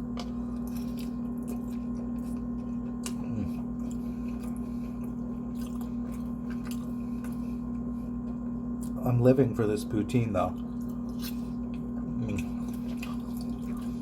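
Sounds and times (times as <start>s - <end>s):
person chewing food: 0.0s - 9.0s, 10.5s - 14.0s
steady low hum: 0.0s - 14.0s.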